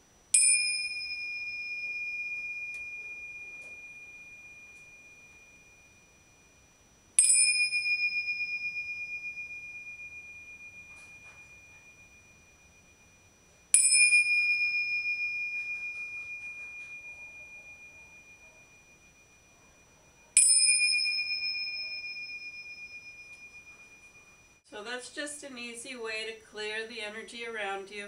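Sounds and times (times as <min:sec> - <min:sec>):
small bells ringing: 0:00.3 - 0:24.7.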